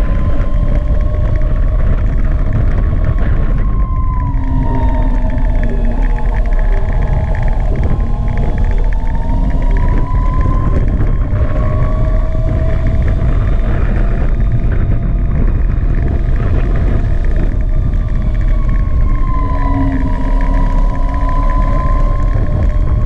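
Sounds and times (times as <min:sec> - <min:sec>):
electric scooter motor whining: 0:00.0 - 0:23.0
wind rumble on microphone: 0:00.0 - 0:23.0.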